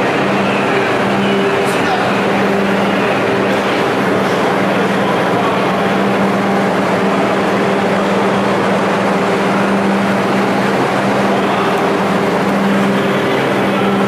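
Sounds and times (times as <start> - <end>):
machinery drone: 0.0 - 14.0.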